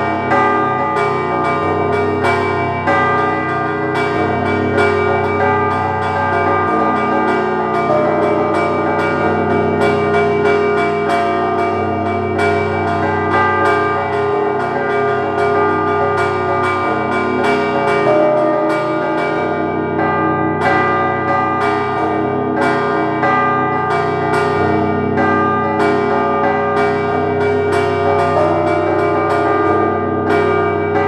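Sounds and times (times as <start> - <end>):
low bells humming: 0.0 - 31.0
small church bells pealing: 0.0 - 31.0.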